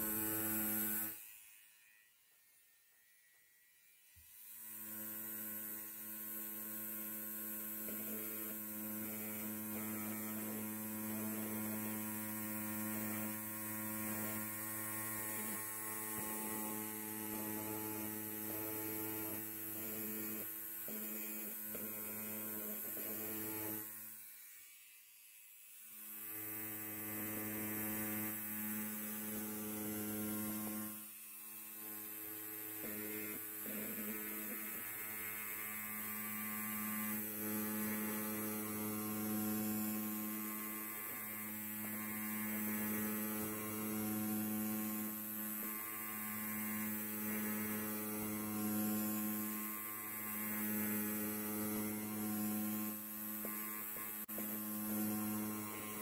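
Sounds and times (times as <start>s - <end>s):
electric hair clipper buzzing: 0.0s - 56.0s.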